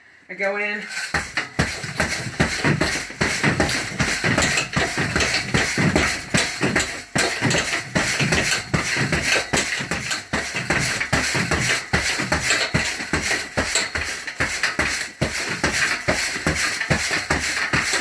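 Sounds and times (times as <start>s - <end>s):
training bar knocks and thumps: 0.9s - 18.0s.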